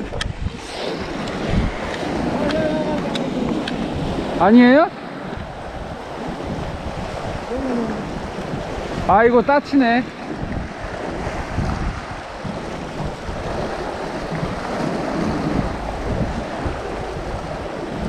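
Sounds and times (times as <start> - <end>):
waves washing against rocks: 0.0 - 18.0
wind buffeting microphone: 0.0 - 18.0.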